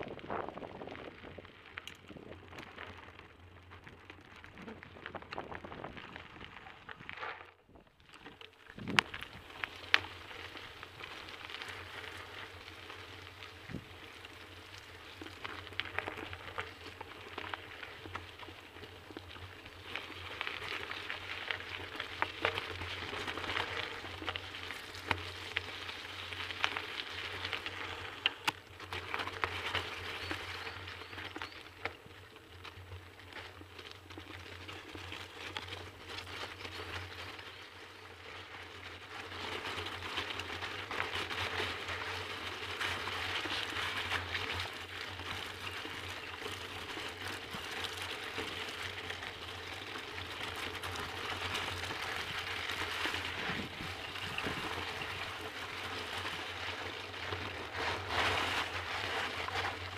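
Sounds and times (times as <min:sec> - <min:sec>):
bicycle tyres crackling over gravel: 0:00.0 - 0:59.9.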